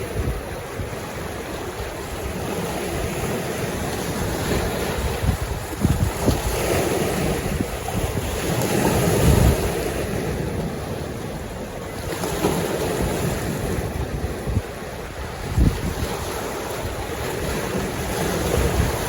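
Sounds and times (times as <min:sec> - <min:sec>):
waves washing onto shore: 0:00.0 - 0:19.0
wind buffeting microphone: 0:00.0 - 0:19.0.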